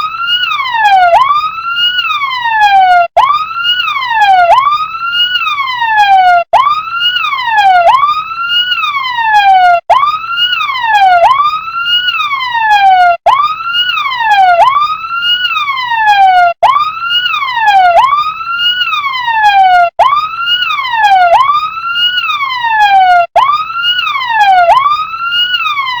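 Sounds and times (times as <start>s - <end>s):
toy electronic siren wailing: 0.0s - 26.0s.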